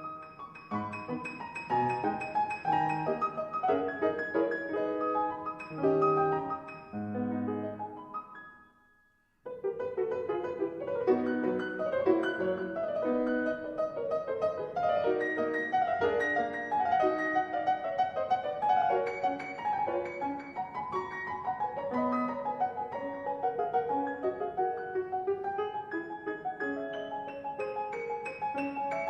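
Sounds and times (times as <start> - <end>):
solo classical piano: 0.0 - 29.0.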